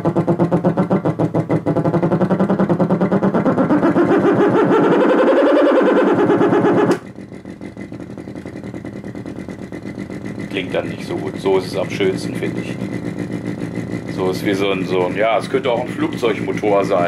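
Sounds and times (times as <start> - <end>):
pulsing synthetic engine tone: 0.0 - 17.0.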